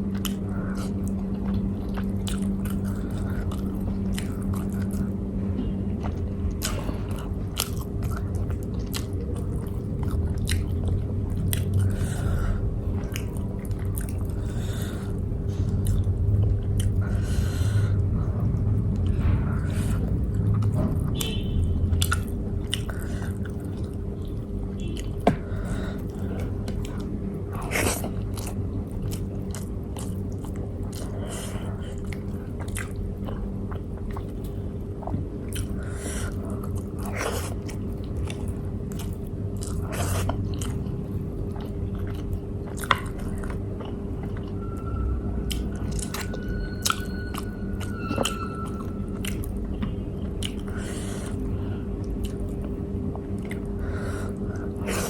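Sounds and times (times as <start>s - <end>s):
low background hum: 0.0s - 55.0s
person chewing food: 0.0s - 55.0s.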